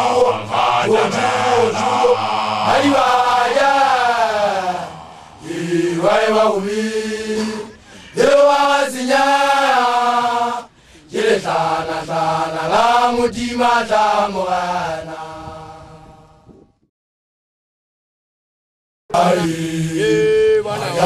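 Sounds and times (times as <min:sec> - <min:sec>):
men chanting a song: 0:00.0 - 0:16.3, 0:19.1 - 0:21.0.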